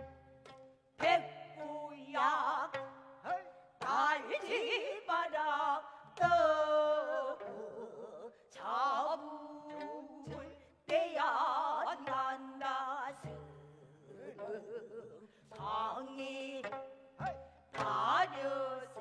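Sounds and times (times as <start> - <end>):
woman singing: 1.0 - 19.0.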